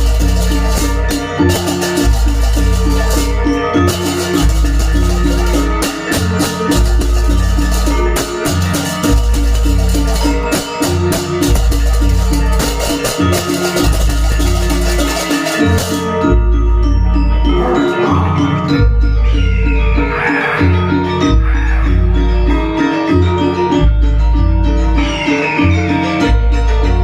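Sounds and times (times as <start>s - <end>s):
drums: 0.0s - 27.0s
gamelan metal-keyed instruments: 0.0s - 27.0s.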